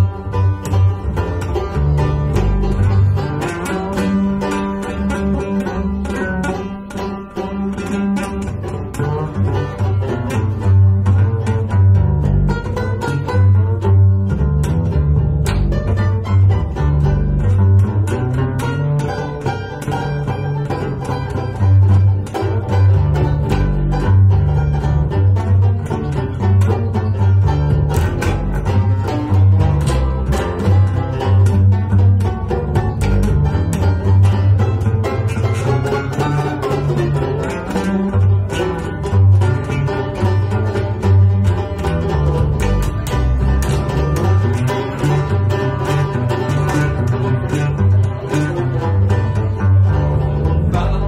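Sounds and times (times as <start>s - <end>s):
banjo picking: 0.0s - 51.0s
plucked double bass: 0.0s - 51.0s.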